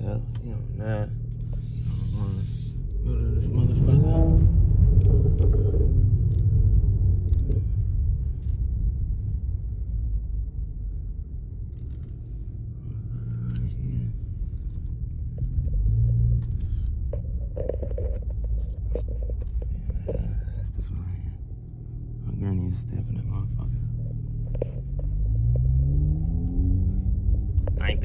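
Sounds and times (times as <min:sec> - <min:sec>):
car engine and exhaust rumbling: 0:00.0 - 0:28.0.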